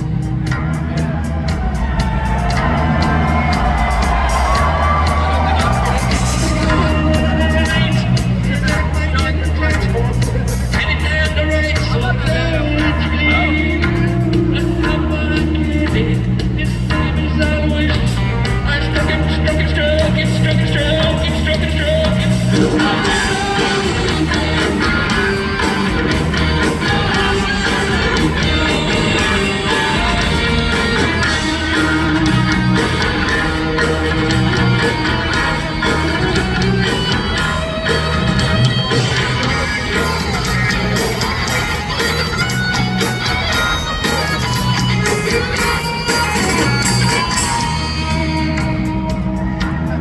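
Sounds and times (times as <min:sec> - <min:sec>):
bass riff: 0:00.0 - 0:50.0
live rock band playing: 0:00.0 - 0:50.0.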